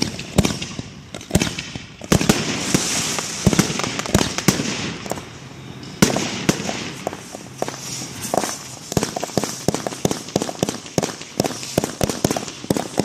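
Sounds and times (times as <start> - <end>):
firework shells bursting: 0.0 - 13.0
rising fireworks hissing: 0.0 - 13.0.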